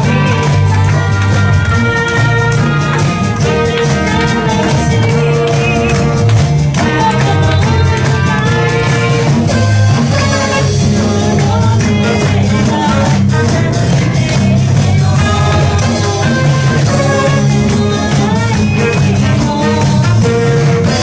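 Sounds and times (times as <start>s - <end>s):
acoustic guitar: 0.0s - 21.0s
bass: 0.0s - 21.0s
keyboard: 0.0s - 21.0s
trumpet: 0.0s - 21.0s.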